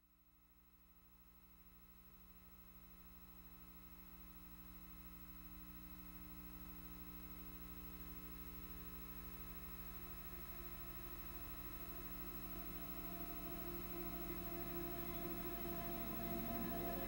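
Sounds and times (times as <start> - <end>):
faint hum of held tones: 0.0 - 17.0.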